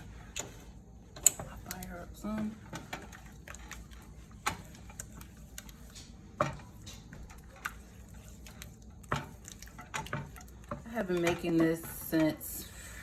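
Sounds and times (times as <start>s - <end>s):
spoon stirring thick mixture: 0.0s - 13.0s.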